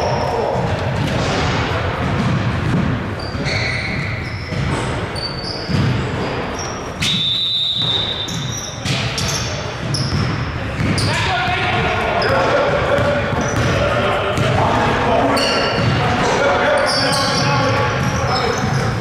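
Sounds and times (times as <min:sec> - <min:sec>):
basketball bouncing on court: 0:00.0 - 0:06.4, 0:07.0 - 0:14.8, 0:15.6 - 0:16.3, 0:17.3 - 0:19.0
sneakers squeaking: 0:00.0 - 0:19.0
voices in echoing hall: 0:00.0 - 0:19.0.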